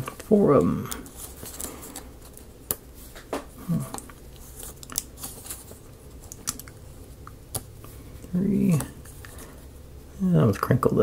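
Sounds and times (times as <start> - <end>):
paper crinkling: 0.0 - 9.6.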